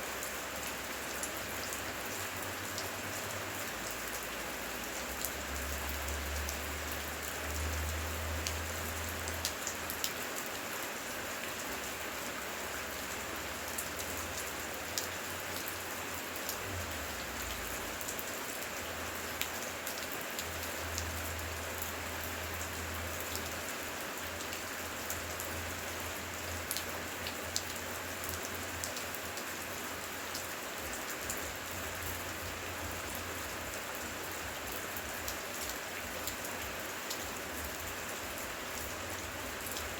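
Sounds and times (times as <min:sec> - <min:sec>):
heavy rain: 0:00.0 - 0:39.9
rain drops ticking: 0:00.0 - 0:39.9.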